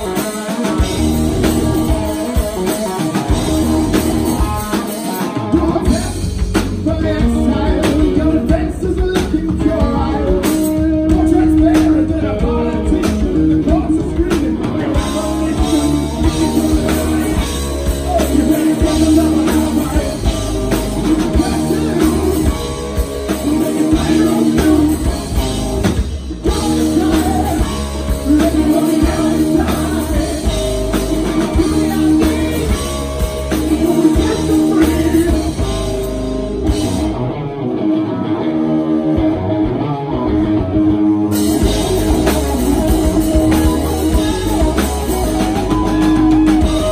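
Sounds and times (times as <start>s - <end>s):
drum kit: 0.0s - 37.4s, 40.6s - 46.9s
electric guitars: 0.0s - 46.9s
rock band playing live: 0.0s - 46.9s.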